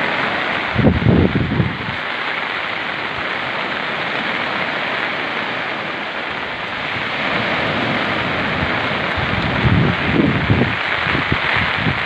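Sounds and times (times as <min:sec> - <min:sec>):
heavy rain: 0:00.0 - 0:12.0
surf breaking on shore: 0:00.0 - 0:12.0.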